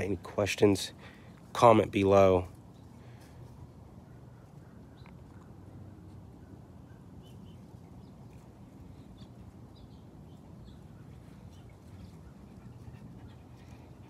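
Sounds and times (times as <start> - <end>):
low steady background rumble: 0.0 - 14.0
small birds chirping: 0.9 - 14.0.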